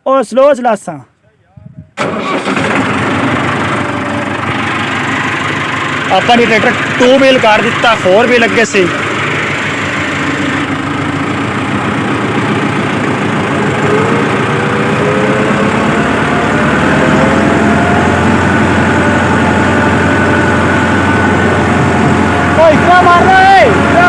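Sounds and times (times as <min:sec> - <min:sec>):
tractor diesel engine running: 0:02.0 - 0:24.0.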